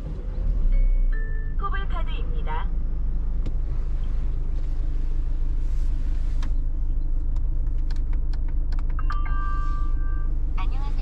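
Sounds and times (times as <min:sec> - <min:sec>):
diesel engine and road rumble: 0:00.0 - 0:11.0.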